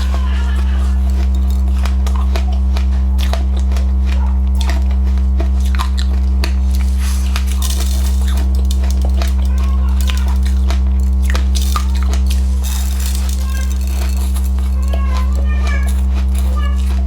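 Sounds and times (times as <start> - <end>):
crunching and chewing seeds: 0.0 - 17.0
loud steady low hum: 0.0 - 17.0.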